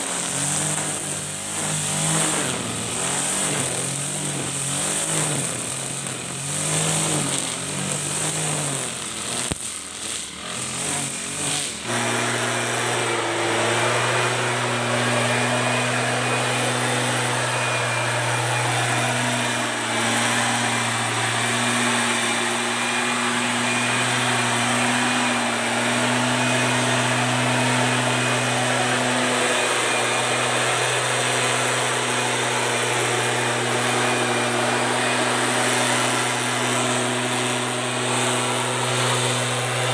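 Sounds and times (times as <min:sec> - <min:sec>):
backpack leaf blower engine: 0:00.0 - 0:39.9
brush cutter engine trimming grass: 0:00.0 - 0:39.9.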